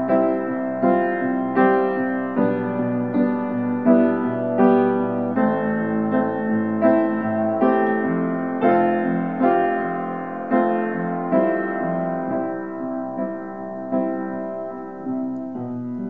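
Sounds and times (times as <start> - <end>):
gentle solo piano: 0.0 - 16.0.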